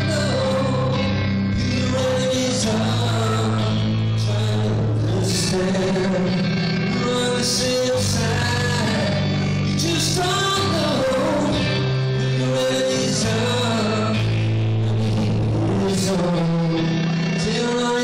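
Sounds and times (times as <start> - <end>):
electric guitar: 0.0 - 18.0
man singing: 0.0 - 18.0
rock band playing: 0.0 - 18.0.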